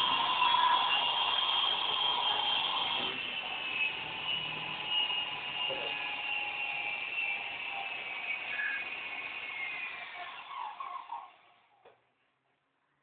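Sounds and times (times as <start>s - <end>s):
toy helicopter motors whining: 0.0s - 11.9s.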